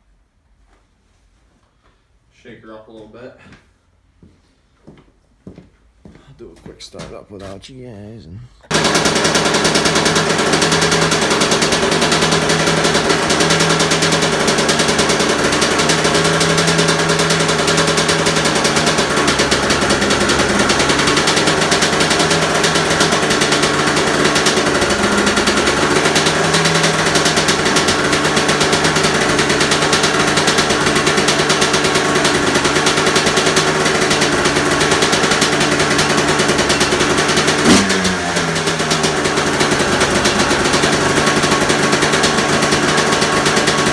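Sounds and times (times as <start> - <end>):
two-stroke engine running: 8.7 - 43.9.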